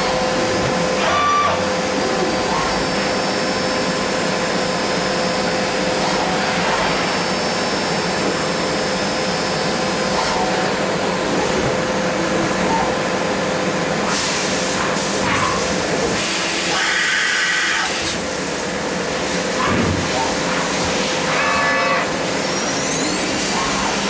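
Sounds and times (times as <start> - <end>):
milling machine whirring: 0.0 - 24.0.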